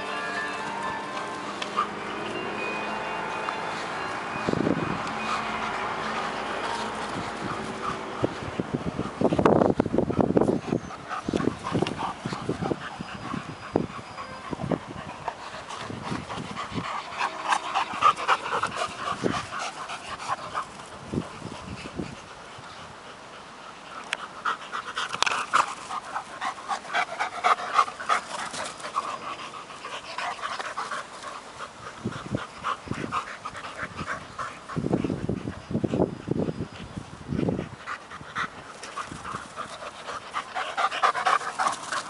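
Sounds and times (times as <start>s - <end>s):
dogs panting: 0.0s - 42.0s.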